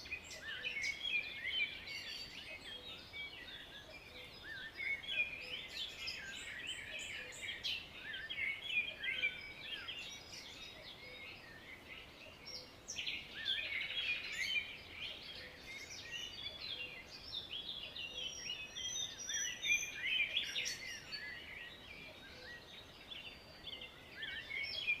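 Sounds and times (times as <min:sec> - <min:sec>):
songbirds chirping and singing: 0:00.0 - 0:25.0.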